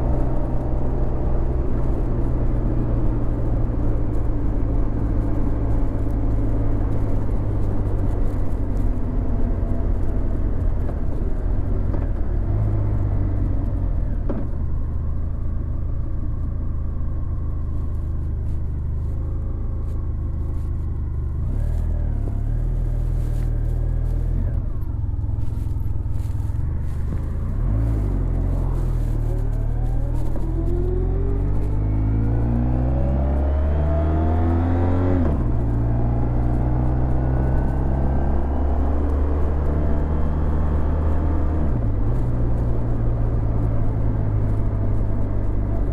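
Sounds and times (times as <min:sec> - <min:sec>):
motorcycle engine rumbling: 0:00.0 - 0:41.1.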